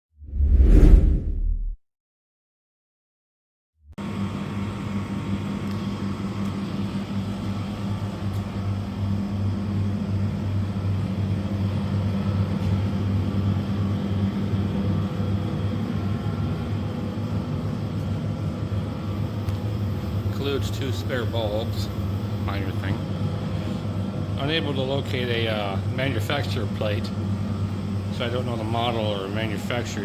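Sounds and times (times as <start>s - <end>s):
fridge humming loudly: 4.0s - 30.0s.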